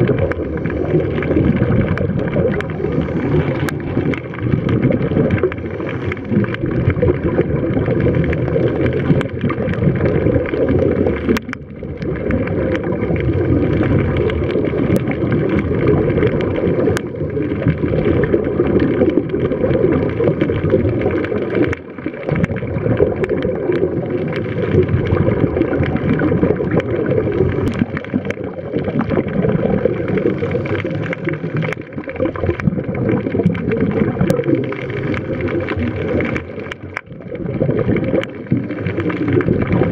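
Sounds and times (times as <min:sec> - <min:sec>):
gurgling bubbles: 0:00.0 - 0:39.9
underwater rumble: 0:00.0 - 0:39.9
small clicks: 0:00.1 - 0:29.2, 0:30.0 - 0:37.2.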